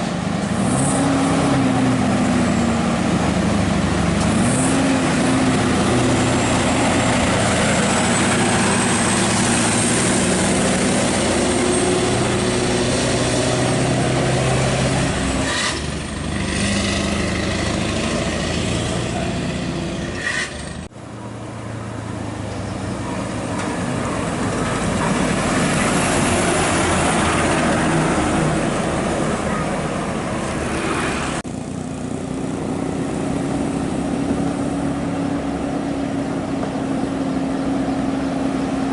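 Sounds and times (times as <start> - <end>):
diesel truck engine: 0.0 - 38.9
road and wind noise: 0.0 - 38.9.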